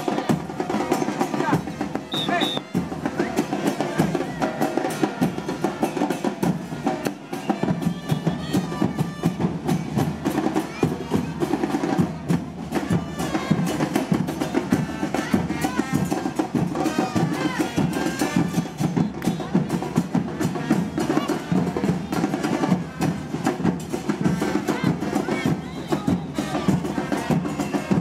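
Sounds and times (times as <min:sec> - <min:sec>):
carnival drums and percussion: 0:00.0 - 0:28.0
voices: 0:00.0 - 0:28.0.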